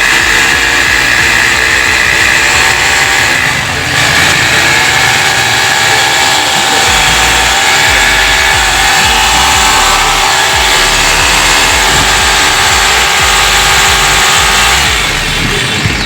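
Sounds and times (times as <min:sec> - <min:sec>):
hammer drill motor whining: 0:00.0 - 0:16.0.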